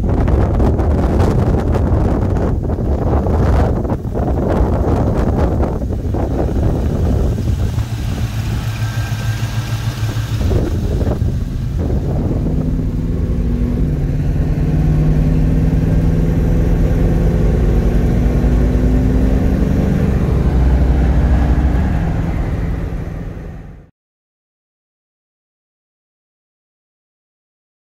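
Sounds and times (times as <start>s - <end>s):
car engine rumbling: 0.0s - 23.9s
car engine accelerating: 0.1s - 23.9s.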